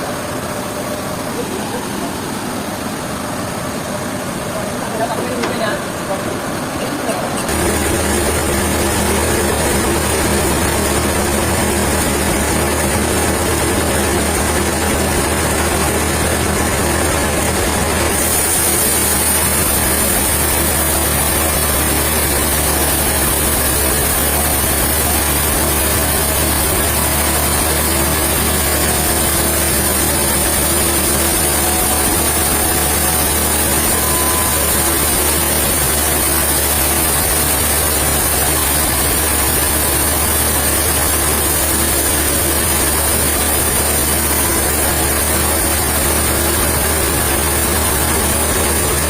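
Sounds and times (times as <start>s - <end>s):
heavy engine humming: 0.0s - 49.0s.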